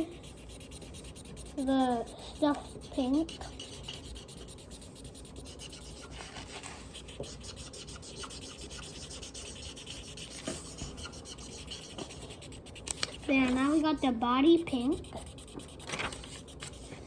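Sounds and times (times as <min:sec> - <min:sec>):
drawing tip rubbing on paper: 0:00.0 - 0:17.0.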